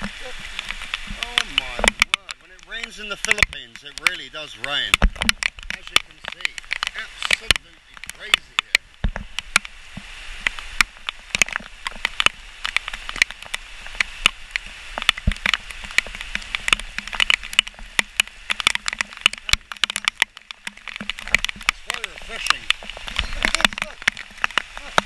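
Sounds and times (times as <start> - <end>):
heavy rain pouring: 0.0 - 25.0
raindrops tapping near microphone: 0.0 - 25.0.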